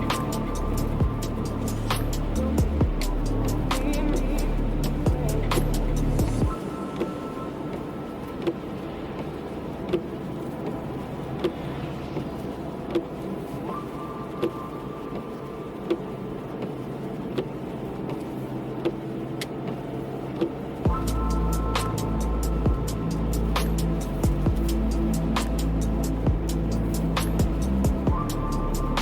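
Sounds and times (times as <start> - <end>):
car road and cabin noise: 0.0 - 29.0.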